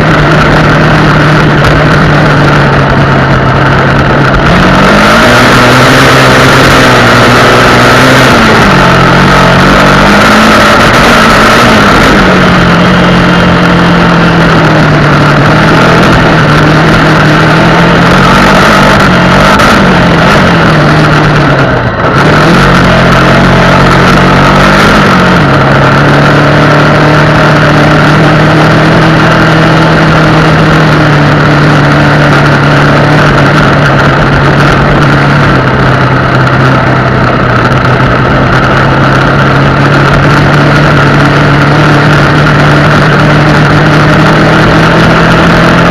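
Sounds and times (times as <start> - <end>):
loud rushing noise: 0.0 - 45.9
motorcycle engine running: 0.0 - 45.9.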